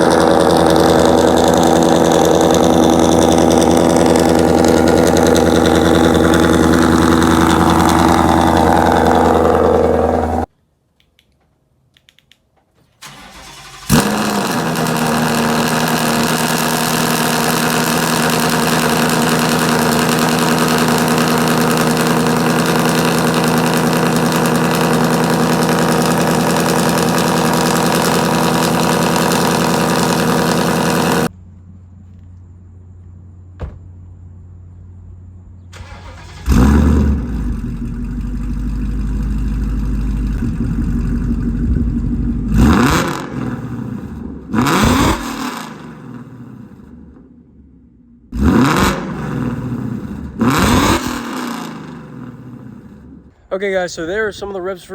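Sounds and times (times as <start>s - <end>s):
car engine revving: 0.0s - 10.5s, 13.0s - 31.3s, 35.8s - 53.3s
loud car engine running: 0.0s - 10.5s, 13.0s - 53.4s.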